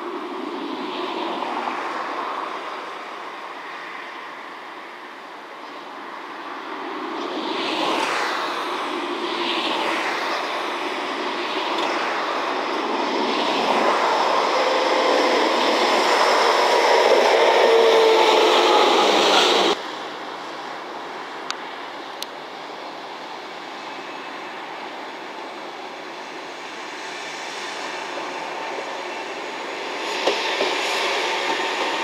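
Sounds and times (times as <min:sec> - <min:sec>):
diesel locomotive passing: 0:00.0 - 0:32.0.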